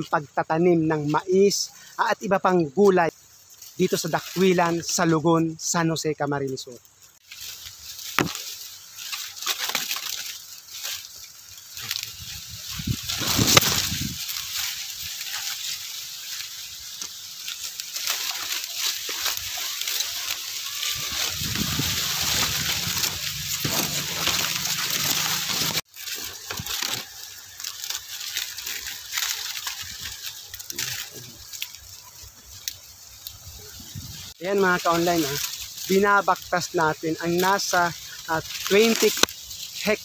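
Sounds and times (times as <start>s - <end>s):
corn stalks rustling and crackling: 0.0s - 40.0s
leaves brushing against phone: 6.6s - 40.0s.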